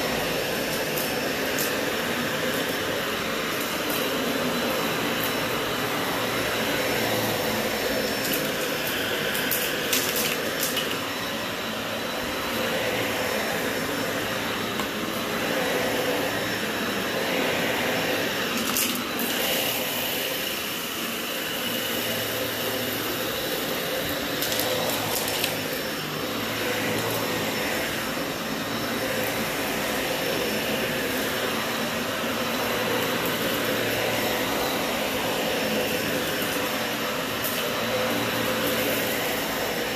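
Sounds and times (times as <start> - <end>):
vacuum cleaner whirring: 0.0 - 39.9.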